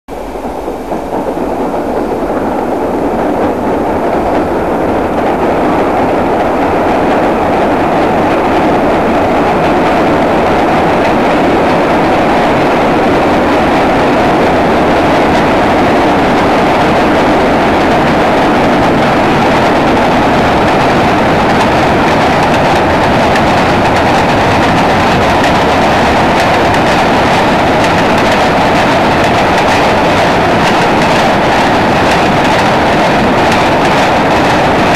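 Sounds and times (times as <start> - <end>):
freight train rumbling on bridge: 0.1 - 34.9
wheels clicking over rail joints: 0.1 - 34.9.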